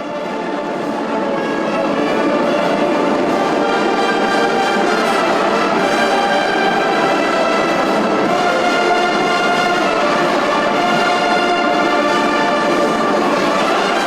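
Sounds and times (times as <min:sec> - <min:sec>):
wind band playing held chords: 0:00.0 - 0:14.0.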